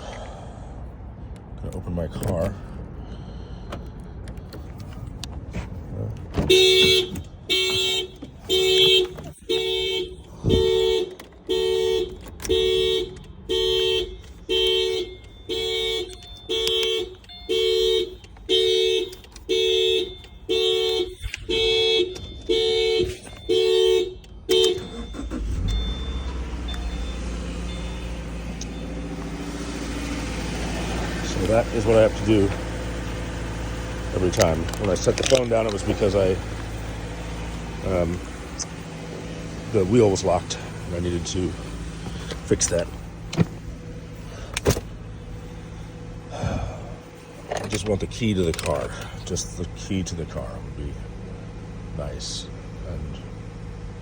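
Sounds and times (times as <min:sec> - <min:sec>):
car engine starting and idling: 0:00.0 - 0:54.0
car alarm honking horn: 0:06.3 - 0:53.8.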